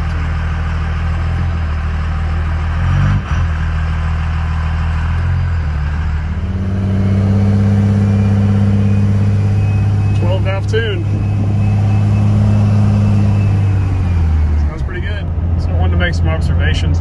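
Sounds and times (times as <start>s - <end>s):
diesel truck engine accelerating: 0.0s - 17.0s.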